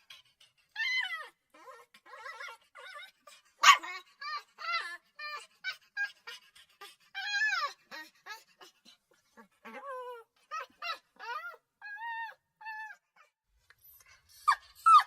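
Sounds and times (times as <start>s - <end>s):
puppy whimpering and yelping: 0.5s - 8.8s, 9.4s - 15.0s.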